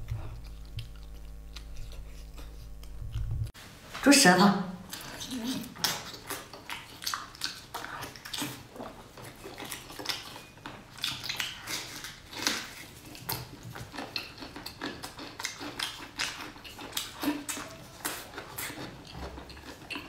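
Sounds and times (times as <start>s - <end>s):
wet chewing and lip-smacking: 0.0s - 3.5s, 4.9s - 20.0s.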